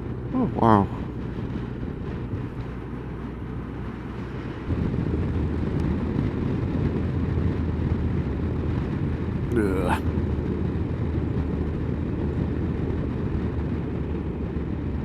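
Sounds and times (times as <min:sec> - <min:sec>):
wind noise: 0:00.9 - 0:15.0.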